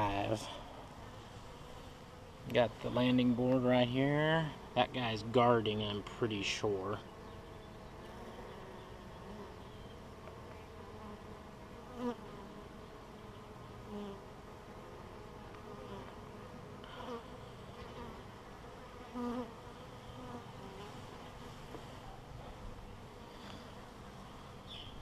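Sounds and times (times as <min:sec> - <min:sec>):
bee colony humming: 0:00.0 - 0:25.0
bees flying past buzzing: 0:00.0 - 0:25.0.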